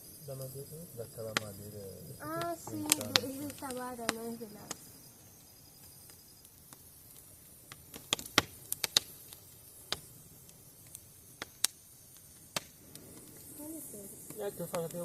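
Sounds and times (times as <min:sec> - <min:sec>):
bonfire wood crackling: 0:00.0 - 0:15.0.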